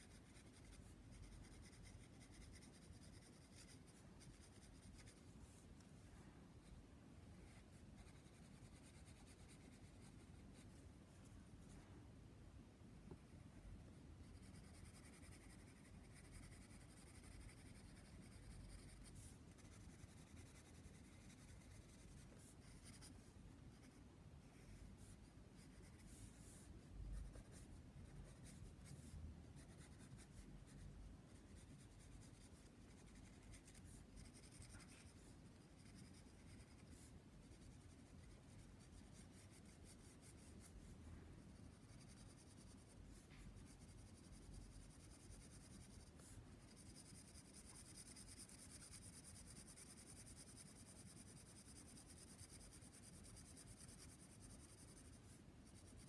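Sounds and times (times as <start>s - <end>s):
pencil scratching on paper: 0.0s - 5.6s, 7.5s - 10.8s, 14.2s - 24.0s, 24.6s - 40.9s, 41.5s - 56.0s.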